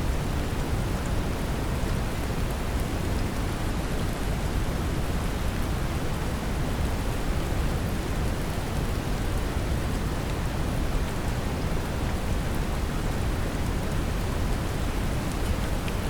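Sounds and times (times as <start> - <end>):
gentle rain: 0.0 - 16.0.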